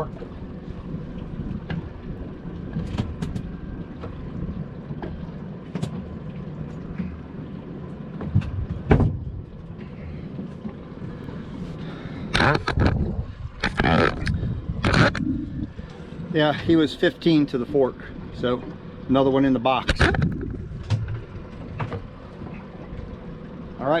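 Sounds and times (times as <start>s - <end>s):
boat engine rumbling: 0.0s - 24.0s.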